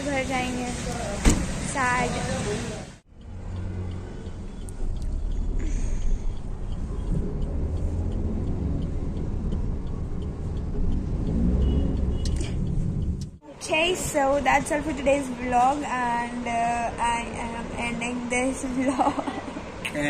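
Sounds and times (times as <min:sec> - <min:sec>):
car engine and road rumble: 0:00.0 - 0:20.0
faint regular ticking: 0:03.0 - 0:19.2.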